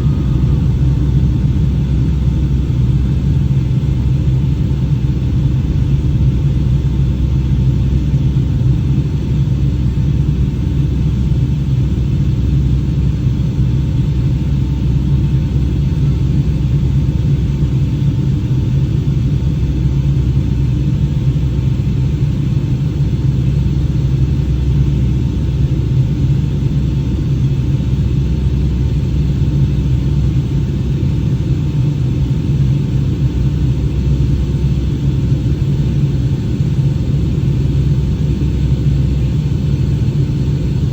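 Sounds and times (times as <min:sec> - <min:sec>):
faint steady whine: 0:00.0 - 0:40.9
jet engines and airflow rumble: 0:00.0 - 0:40.9.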